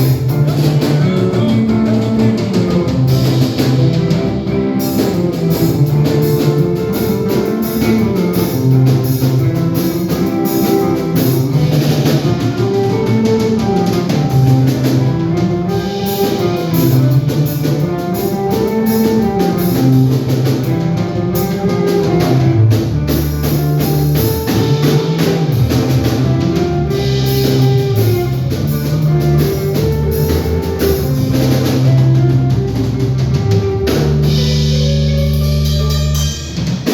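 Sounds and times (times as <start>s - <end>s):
drum kit beat: 0.0s - 36.9s
guitar: 0.0s - 36.9s
low bass line: 0.0s - 36.9s.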